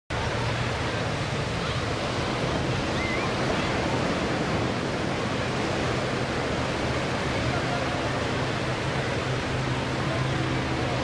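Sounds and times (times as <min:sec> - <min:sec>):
faint biplane engine drone: 0:00.1 - 0:11.0
wind: 0:00.1 - 0:11.0.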